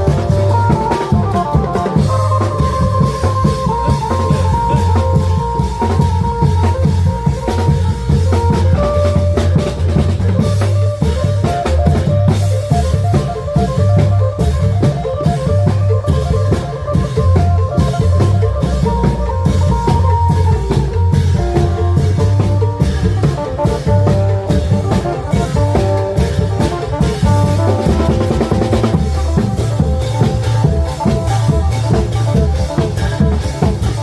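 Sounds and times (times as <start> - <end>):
driving drum beat: 0.0 - 34.0
lute melody: 0.0 - 34.0.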